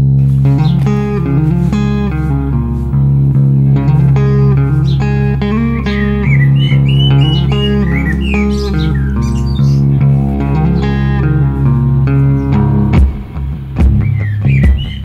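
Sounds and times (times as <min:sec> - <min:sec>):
plucked guitar: 0:00.0 - 0:15.0
steady bass line: 0:00.0 - 0:15.0.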